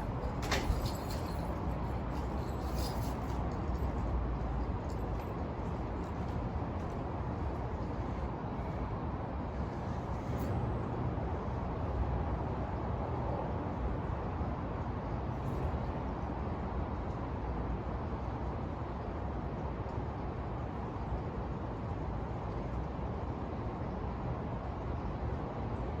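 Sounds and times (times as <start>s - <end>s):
city traffic hum: 0.0s - 26.0s.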